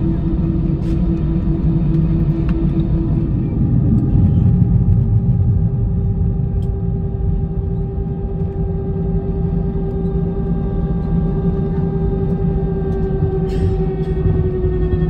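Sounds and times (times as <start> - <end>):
jet engines idling: 0.0 - 15.0.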